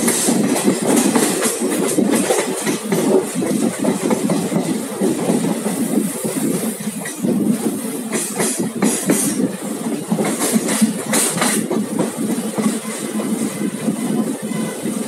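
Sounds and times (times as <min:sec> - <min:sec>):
wheel clatter over rail joints: 0:00.0 - 0:14.7
train wheels rumbling on track: 0:00.0 - 0:15.0.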